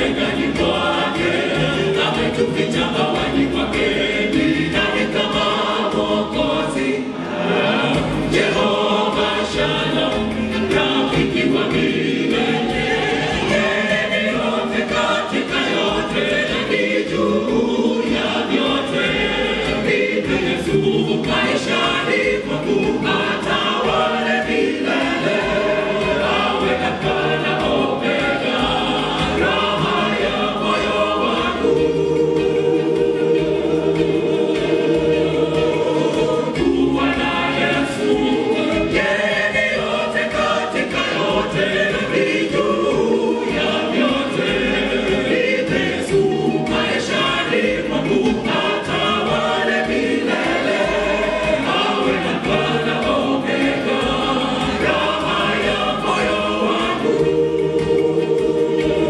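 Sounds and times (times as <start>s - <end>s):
choir singing gospel song: 0.0s - 59.0s.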